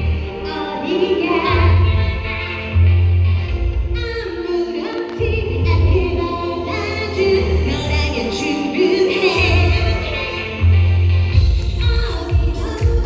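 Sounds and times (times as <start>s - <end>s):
woman singing: 0.0s - 2.8s, 3.9s - 13.0s
live pop song with band: 0.0s - 13.0s.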